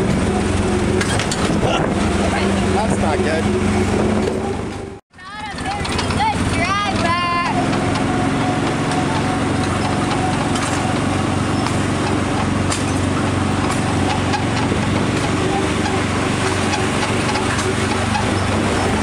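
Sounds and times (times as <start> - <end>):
small gasoline engine droning: 0.0 - 19.0.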